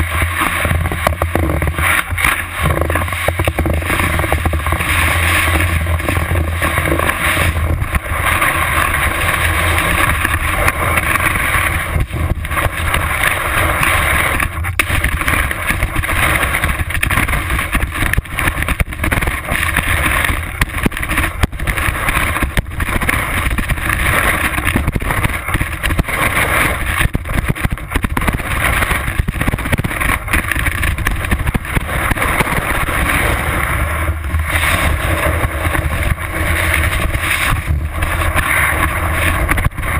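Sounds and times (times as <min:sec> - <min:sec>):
skis knocking over bumps: 0:00.0 - 0:39.9
skis scraping over snow: 0:00.0 - 0:39.9
wind rumbling on microphone: 0:00.0 - 0:39.9.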